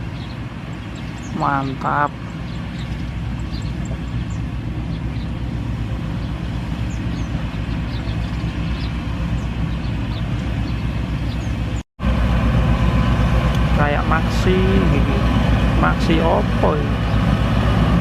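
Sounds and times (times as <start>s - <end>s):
diesel engine throbbing: 0.0s - 18.0s.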